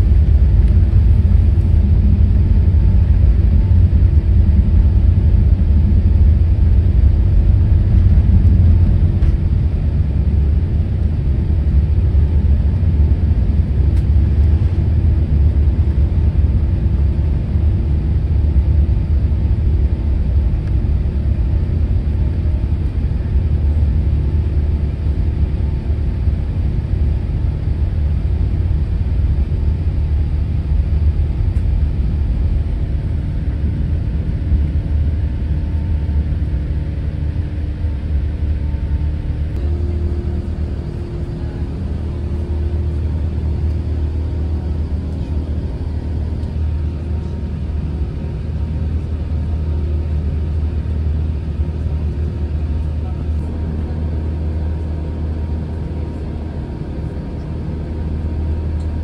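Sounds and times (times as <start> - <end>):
faint steady engine tones: 0.0 - 59.0
jet engines rumbling: 0.0 - 59.0.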